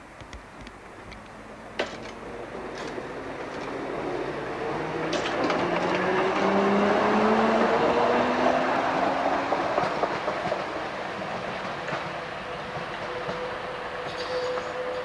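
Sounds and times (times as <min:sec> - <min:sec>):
tram passing: 0:00.0 - 0:15.0
tram whine rising in pitch: 0:01.2 - 0:15.0.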